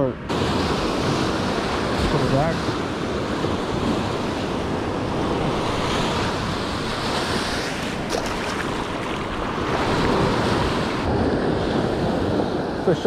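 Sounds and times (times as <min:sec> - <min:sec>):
ocean surf breaking on sand: 0:00.0 - 0:13.0
wind rumbling on microphone: 0:00.0 - 0:13.0.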